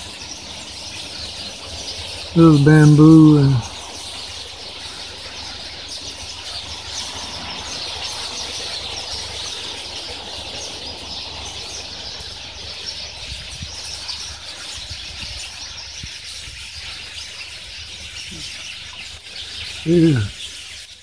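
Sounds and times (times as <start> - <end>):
flock of birds chattering: 0.0 - 21.0.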